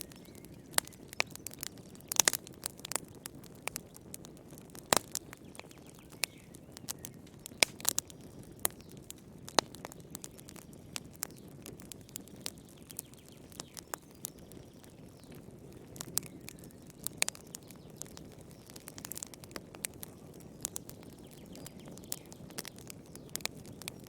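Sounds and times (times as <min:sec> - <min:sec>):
wood fire popping and snapping: 0:00.0 - 0:24.0.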